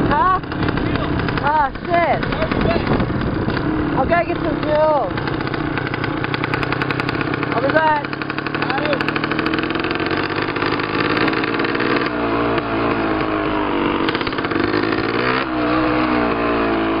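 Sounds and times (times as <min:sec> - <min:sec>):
dirt bike engine accelerating: 0:00.0 - 0:17.0.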